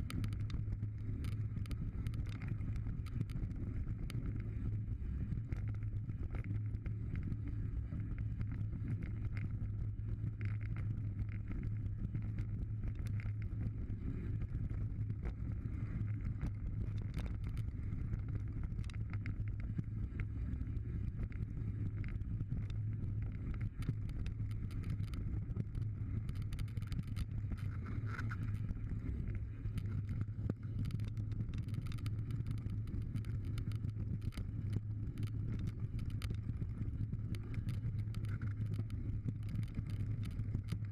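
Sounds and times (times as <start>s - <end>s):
bike clicks and rattles: 0.0s - 40.9s.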